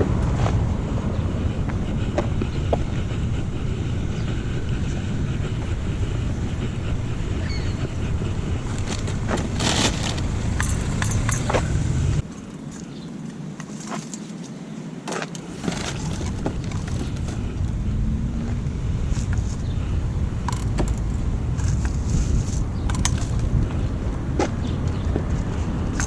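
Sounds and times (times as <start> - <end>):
wind buffeting microphone: 0.0 - 13.6, 15.5 - 26.0.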